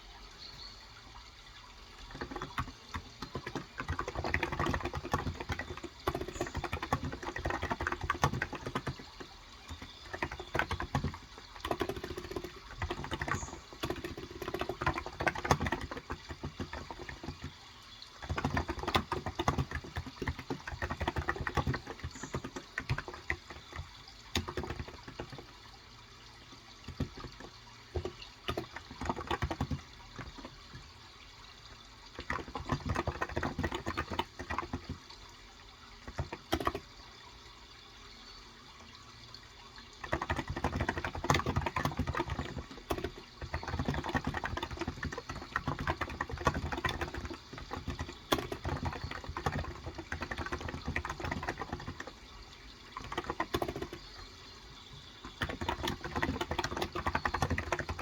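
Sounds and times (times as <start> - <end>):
keyboard typing: 2.0 - 17.6, 18.2 - 25.5, 26.8 - 30.9, 32.2 - 35.0, 36.1 - 36.9, 40.0 - 52.2, 52.8 - 58.0.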